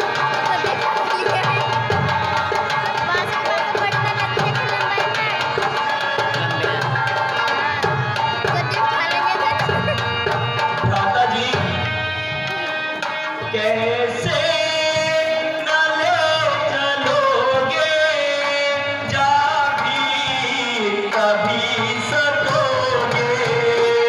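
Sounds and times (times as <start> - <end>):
musical accompaniment: 0.0 - 24.0
person singing into microphone: 0.0 - 24.0.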